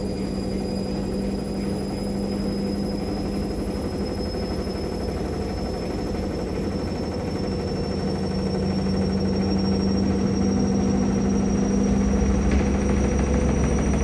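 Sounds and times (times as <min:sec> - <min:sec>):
high motor whine: 0:00.0 - 0:14.0
washing machine spinning: 0:00.0 - 0:14.0.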